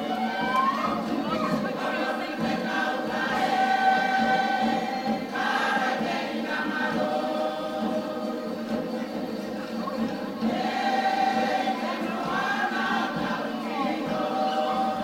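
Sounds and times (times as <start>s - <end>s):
choir singing in harmony: 0.0s - 15.0s.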